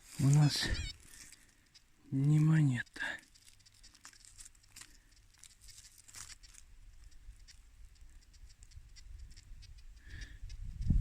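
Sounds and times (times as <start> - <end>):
dry leaves and soil rustling: 0.0 - 10.3.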